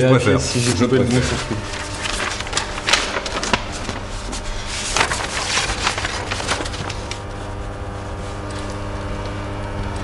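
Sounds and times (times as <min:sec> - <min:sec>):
paper sheets rustling: 0:00.4 - 0:10.0
sharp paper crackles: 0:00.5 - 0:10.0.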